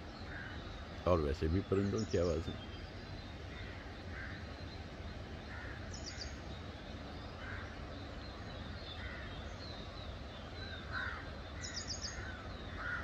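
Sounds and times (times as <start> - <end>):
low steady rumble: 0.0 - 12.8
small birds chirping: 0.0 - 13.0.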